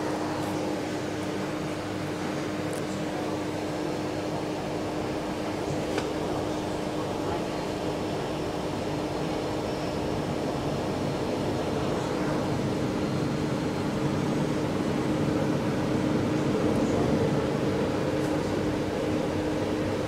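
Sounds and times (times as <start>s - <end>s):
train hum: 0.0s - 20.0s.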